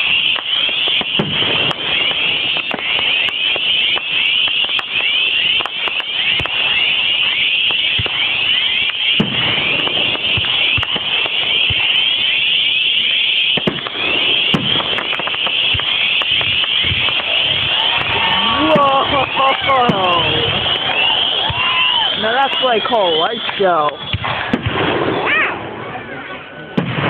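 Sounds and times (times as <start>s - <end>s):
fireworks crackling and banging: 0.0s - 27.0s
heavy firework booms: 0.0s - 27.0s.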